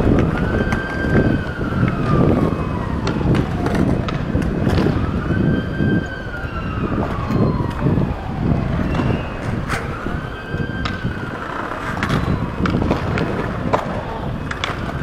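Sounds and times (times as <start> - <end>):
emergency siren wailing: 0.0 - 15.0
rumble of city noise: 0.0 - 15.0.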